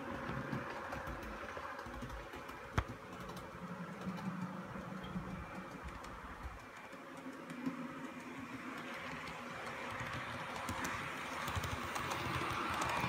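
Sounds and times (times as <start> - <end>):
model train motor and wheels: 0.0 - 13.0
wheels clicking over track: 0.0 - 13.0.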